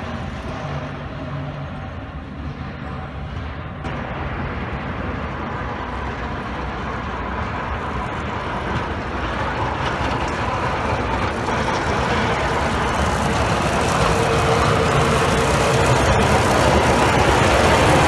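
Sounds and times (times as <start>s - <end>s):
road noise: 0.0s - 18.0s
truck engine rumble: 0.0s - 18.0s.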